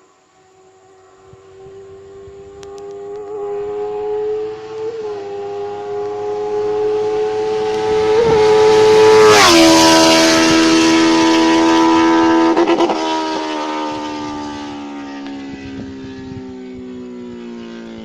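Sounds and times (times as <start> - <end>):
motorcycle passing at high revs: 0.0 - 18.0.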